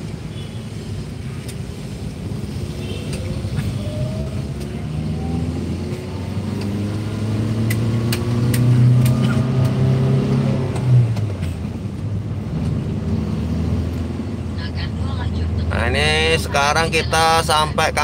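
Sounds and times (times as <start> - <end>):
car engine from inside cabin: 1.6 - 18.0.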